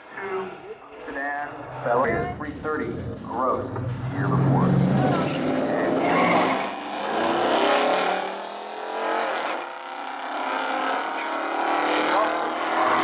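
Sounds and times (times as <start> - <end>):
cars accelerating hard: 1.6 - 13.0.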